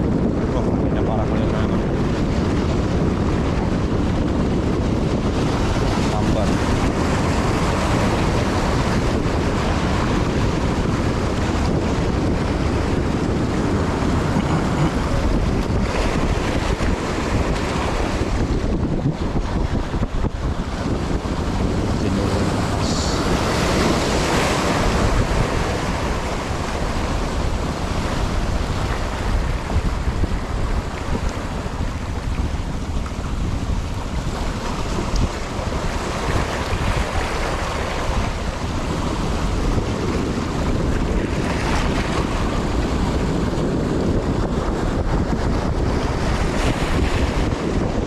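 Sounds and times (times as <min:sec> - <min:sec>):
sea waves on a rocky shore: 0:00.0 - 0:48.0
wind buffeting the microphone: 0:00.0 - 0:48.0.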